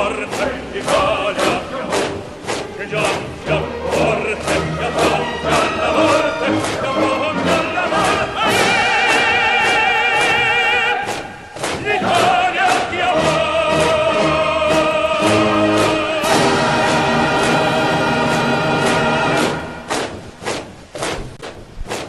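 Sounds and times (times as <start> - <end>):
voices singing held notes: 0.0 - 20.2
steady drum beat: 0.0 - 22.0.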